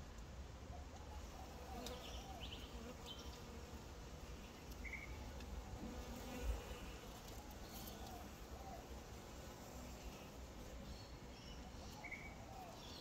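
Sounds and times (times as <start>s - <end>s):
honeybees buzzing: 1.2s - 13.0s.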